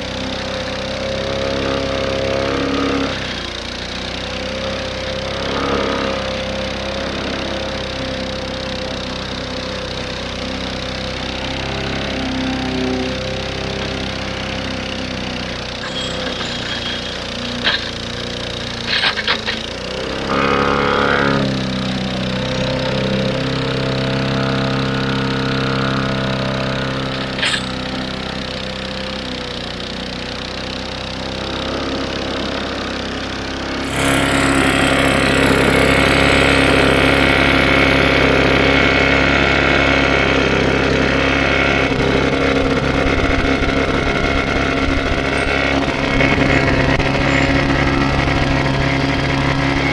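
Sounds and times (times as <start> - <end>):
lawnmower engine running: 0.0 - 49.9.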